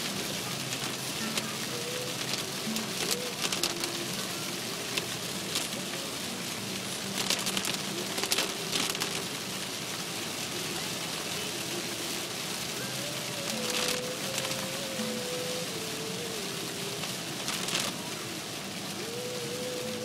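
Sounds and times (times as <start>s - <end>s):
heavy rain on car: 0.0s - 20.0s
spatters of raindrops: 0.0s - 20.0s.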